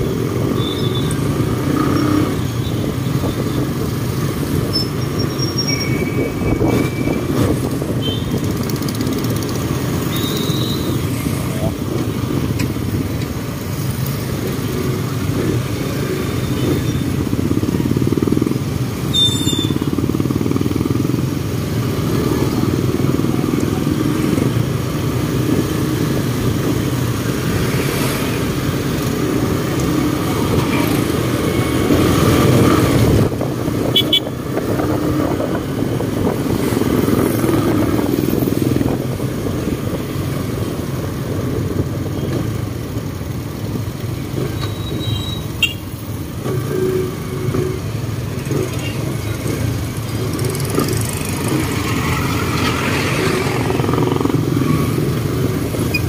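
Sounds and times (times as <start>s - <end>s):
motorcycle engines droning: 0.0s - 56.0s
road noise: 0.0s - 56.0s.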